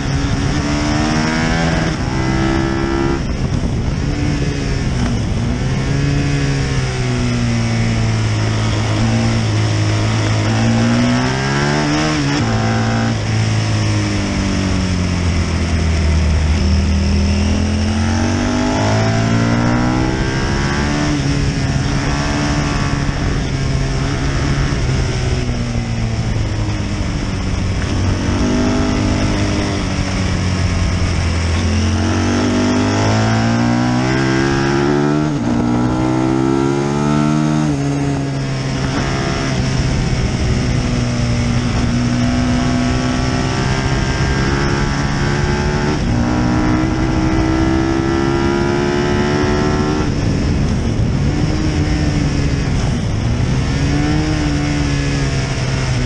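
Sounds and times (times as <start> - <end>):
racing motorcycle engine revving: 0.0 - 56.0.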